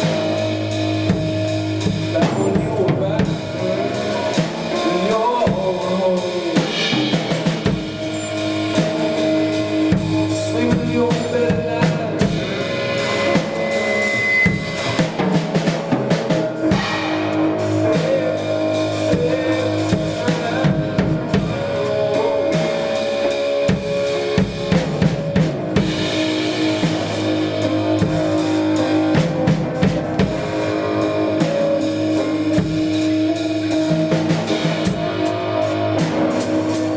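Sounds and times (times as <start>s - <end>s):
drum kit beat: 0.0s - 36.9s
instrumental rock music: 0.0s - 36.9s.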